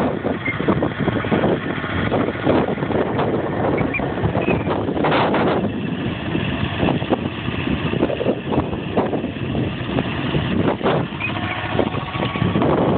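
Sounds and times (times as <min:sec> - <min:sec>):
tractor engine running: 0:00.0 - 0:12.9
wind buffeting microphone: 0:00.0 - 0:12.9.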